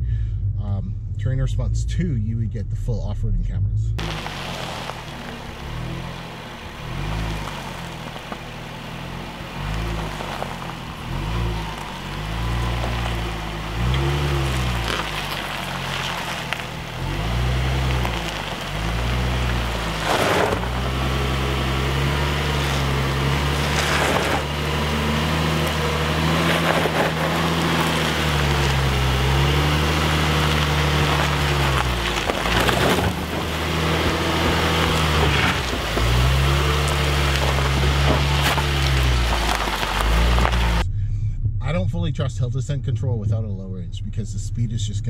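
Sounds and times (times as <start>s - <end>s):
suv engine at low speed: 0.0s - 45.0s
tyres crackling on gravel: 4.0s - 40.8s.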